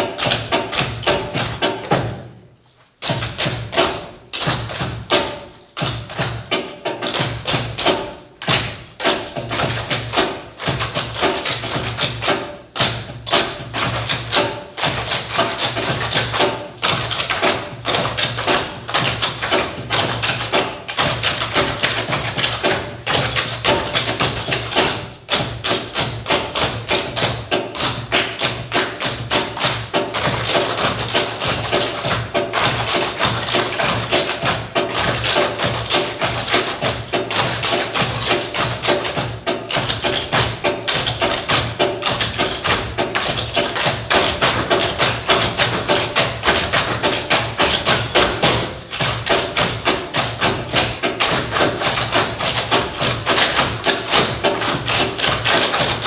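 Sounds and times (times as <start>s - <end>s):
cajon thumps: 0.0s - 56.0s
tap shoes clicking on stage: 0.0s - 56.0s.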